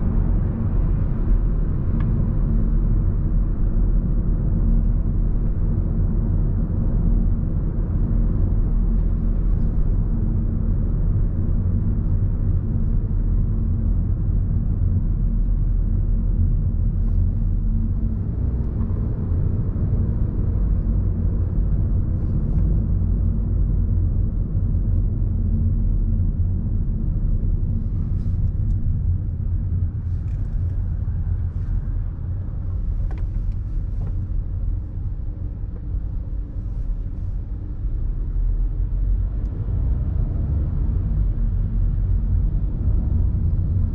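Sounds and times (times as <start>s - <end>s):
low rumble of road traffic: 0.0s - 43.9s.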